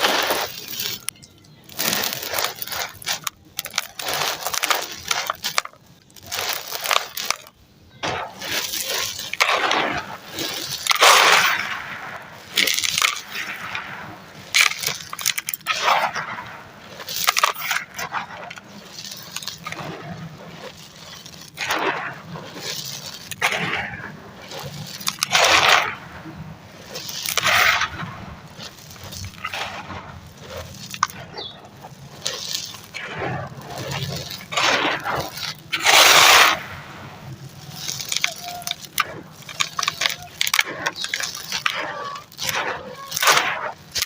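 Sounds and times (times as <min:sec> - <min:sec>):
powdery material being crushed: 0:00.0 - 0:44.0.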